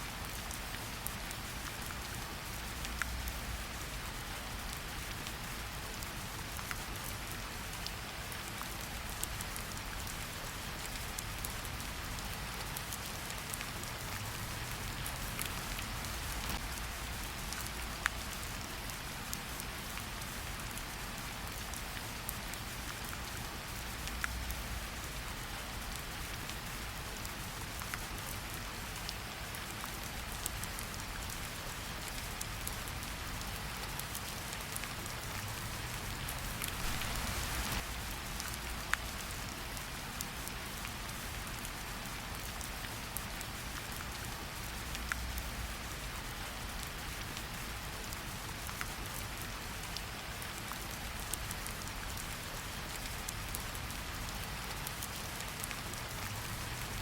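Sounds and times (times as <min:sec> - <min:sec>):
rain falling in forest: 0:00.0 - 0:57.0.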